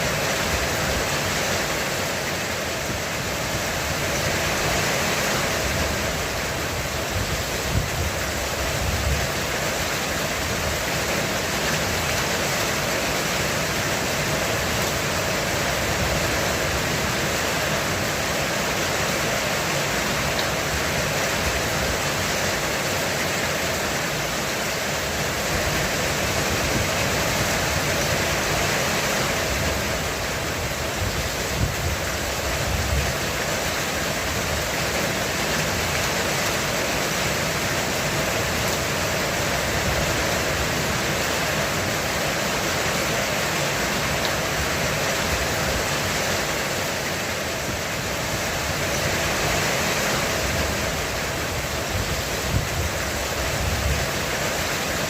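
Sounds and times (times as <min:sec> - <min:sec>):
heavy rain drumming on roof: 0:00.0 - 0:55.0.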